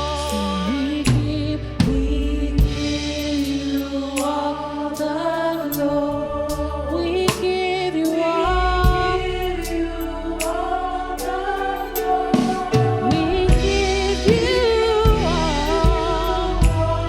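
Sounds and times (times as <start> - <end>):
gospel worship music with band: 0.0 - 17.0.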